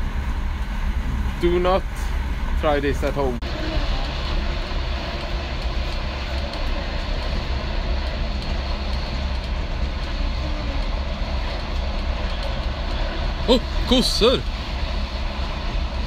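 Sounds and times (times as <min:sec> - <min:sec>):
train rumble and hiss: 0:00.0 - 0:16.0.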